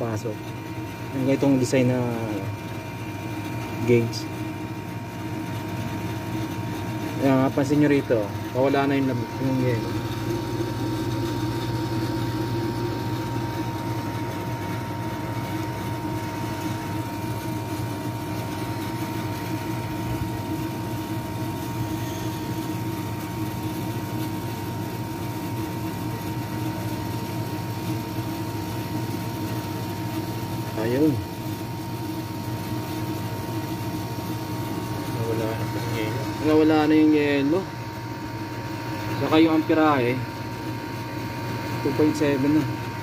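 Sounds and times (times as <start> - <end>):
air conditioner unit humming: 0.0 - 43.0.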